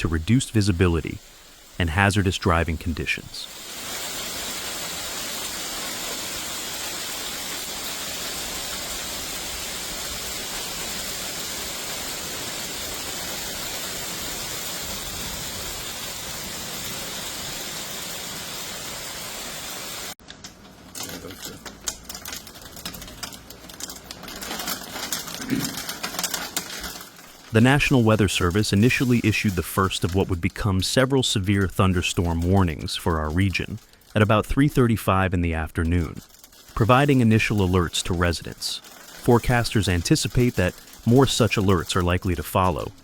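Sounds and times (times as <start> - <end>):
heavy rain hissing: 0.0 - 20.2, 21.0 - 43.0
rain tapping on hard surfaces: 3.5 - 34.6, 35.7 - 43.0.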